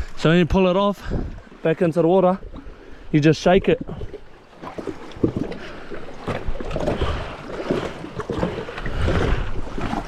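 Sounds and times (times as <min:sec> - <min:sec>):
water sloshing against hull: 0:00.9 - 0:10.0.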